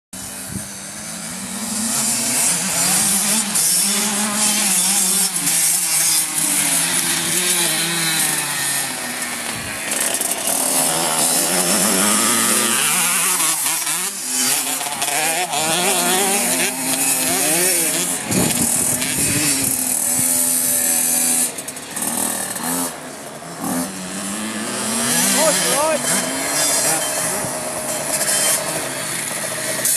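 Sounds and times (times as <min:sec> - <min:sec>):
dirt bike engine revving: 0:00.2 - 0:29.9.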